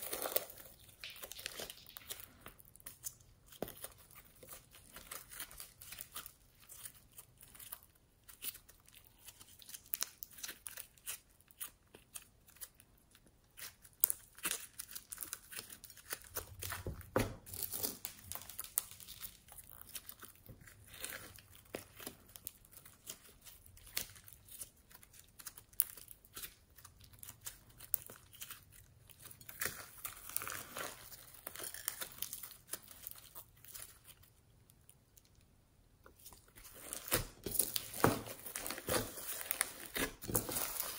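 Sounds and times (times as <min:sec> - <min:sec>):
slime squishing and crackling: 0:00.0 - 0:40.9.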